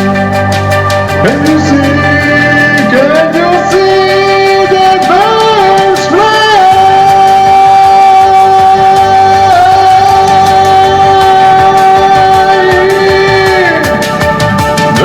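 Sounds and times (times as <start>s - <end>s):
light beat: 0.0s - 15.0s
melody with long held note: 0.0s - 15.0s.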